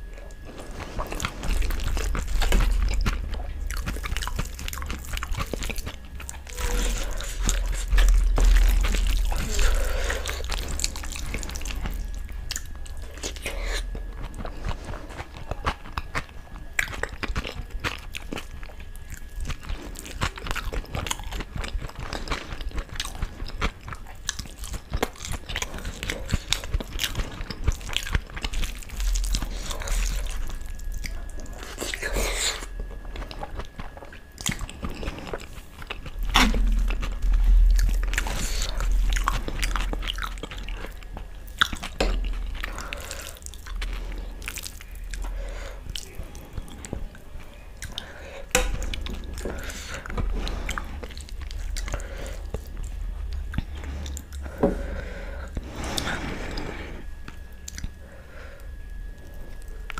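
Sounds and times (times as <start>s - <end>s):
chewing and mouth smacks: 0.0s - 54.7s, 57.2s - 58.0s.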